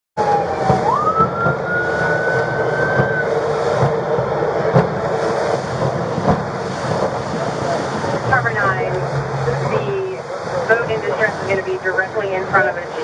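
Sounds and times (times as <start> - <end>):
high whine: 0.2 - 13.0
motorboat engine drone: 0.2 - 13.0
rushing water: 0.2 - 13.0
wind: 0.2 - 13.0.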